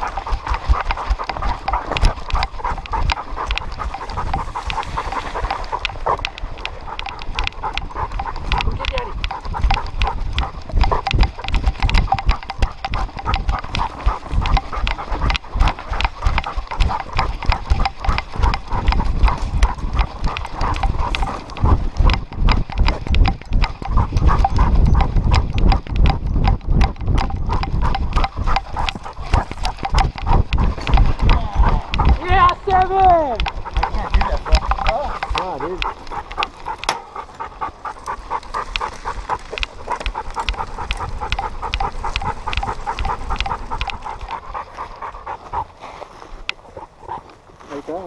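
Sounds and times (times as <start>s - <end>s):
dog paws pattering on dirt: 0.0s - 48.0s.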